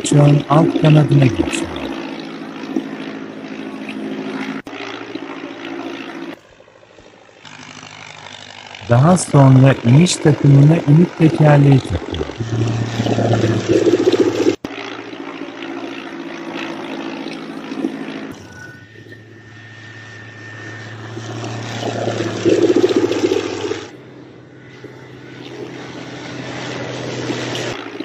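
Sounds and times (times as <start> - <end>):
propeller aircraft engine droning: 0.0 - 28.0.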